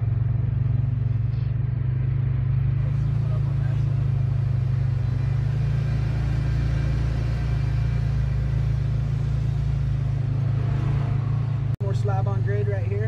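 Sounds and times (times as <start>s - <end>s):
low vehicle engine drone: 0.0s - 13.0s.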